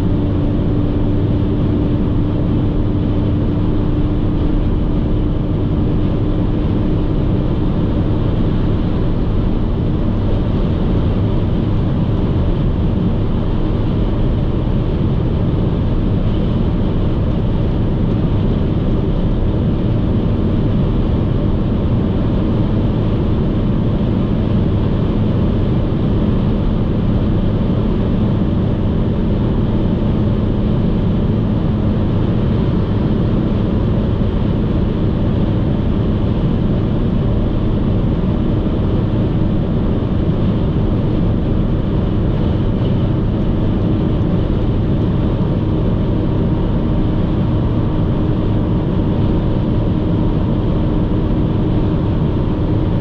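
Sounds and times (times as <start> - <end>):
low engine hum: 0.0 - 53.0.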